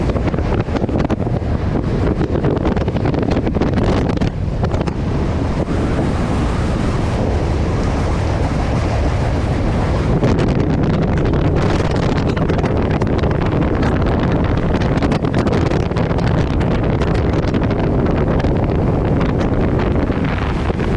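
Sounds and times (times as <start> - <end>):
wind rushing over microphone: 0.0 - 20.9.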